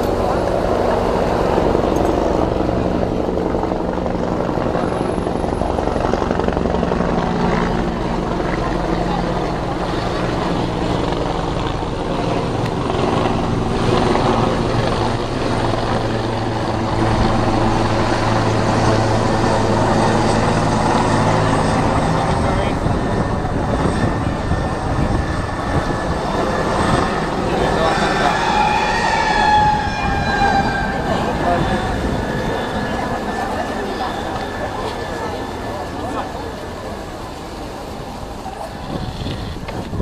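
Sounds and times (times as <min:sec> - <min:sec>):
engine drone: 0:00.0 - 0:40.0.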